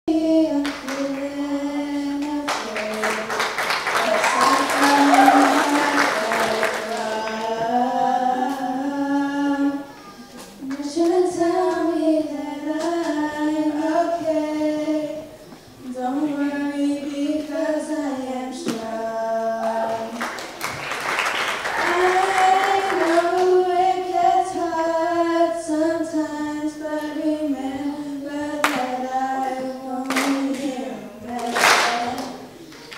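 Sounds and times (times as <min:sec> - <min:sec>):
girls singing into microphones: 0:00.1 - 0:20.6, 0:21.6 - 0:32.9.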